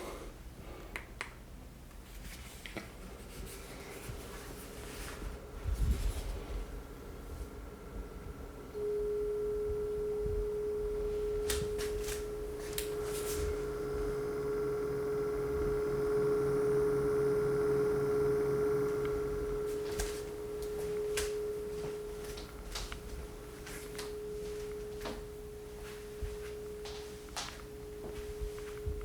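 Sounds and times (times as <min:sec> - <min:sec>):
projector whining tone: 0:04.8 - 0:29.0.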